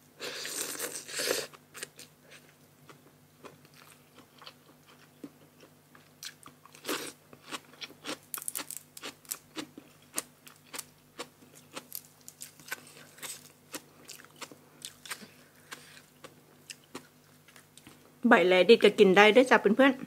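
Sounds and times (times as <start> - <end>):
crunchy food being chewed: 0.4 - 18.1.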